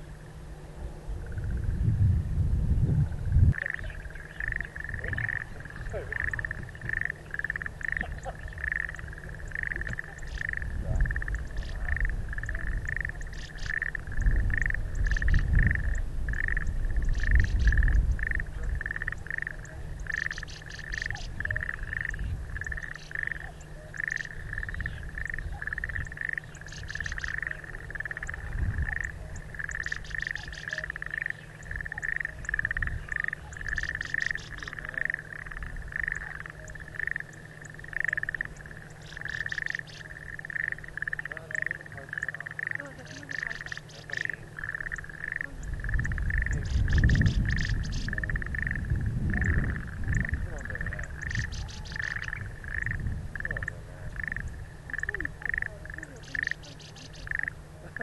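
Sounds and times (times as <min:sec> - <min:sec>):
wind on microphone: 0:00.6 - 0:37.2, 0:43.2 - 0:58.0
bird chattering song: 0:03.6 - 0:58.0.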